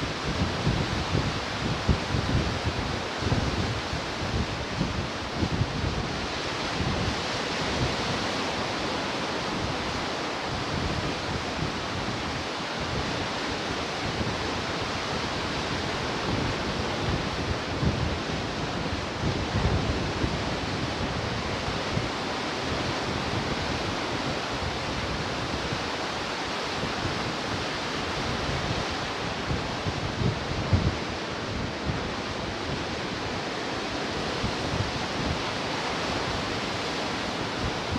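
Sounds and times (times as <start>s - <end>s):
ocean surf washing: 0.0s - 37.9s
wind buffeting microphone: 0.0s - 37.9s.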